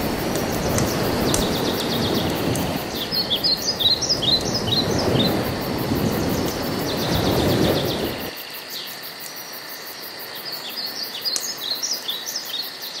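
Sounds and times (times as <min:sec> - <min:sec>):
small birds chirping: 0:00.4 - 0:09.4, 0:10.3 - 0:13.0.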